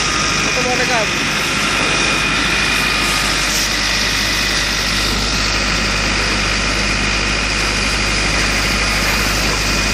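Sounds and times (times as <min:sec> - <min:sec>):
engine idling: 0:00.0 - 0:09.9
thin steady whine: 0:00.0 - 0:09.9.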